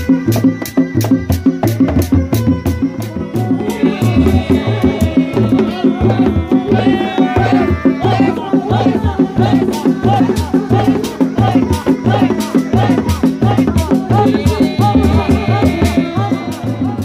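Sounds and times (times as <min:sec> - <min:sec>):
frame drums beating: 0:00.0 - 0:17.0
reed pipe melody: 0:00.0 - 0:17.0.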